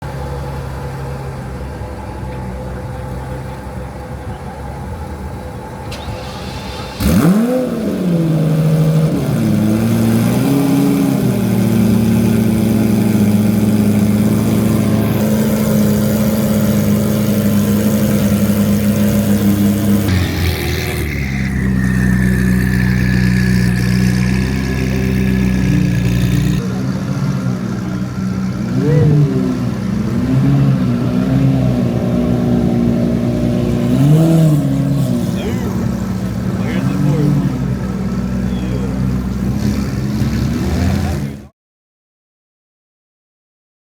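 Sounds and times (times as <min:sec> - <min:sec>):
another engine idling: 0:00.0 - 0:41.4
car engine starting and revving: 0:00.1 - 0:41.5.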